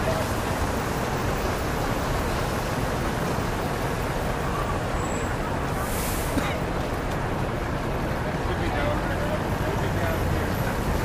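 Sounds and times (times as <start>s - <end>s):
traffic on a wet street: 0.0s - 11.0s.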